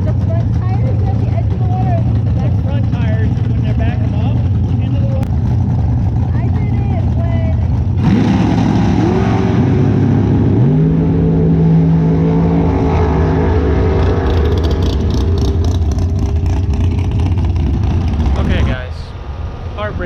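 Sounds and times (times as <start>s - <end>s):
drag-race car engine revving: 0.0s - 19.1s.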